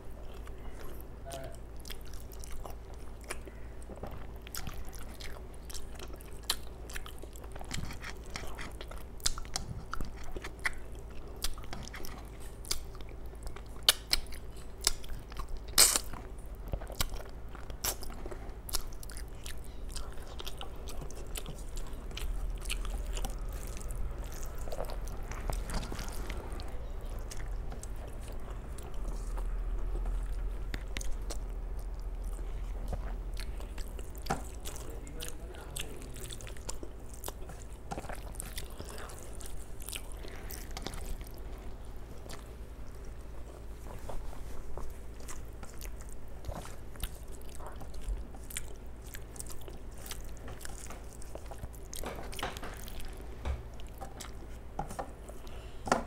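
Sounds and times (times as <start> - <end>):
close chewing: 0.0 - 55.8
steady low hum: 0.0 - 56.0.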